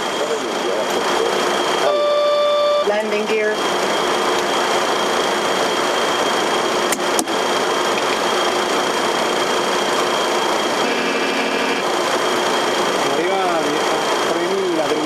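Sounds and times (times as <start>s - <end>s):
airflow and engine noise: 0.0s - 15.0s
thin high whine: 0.0s - 15.0s.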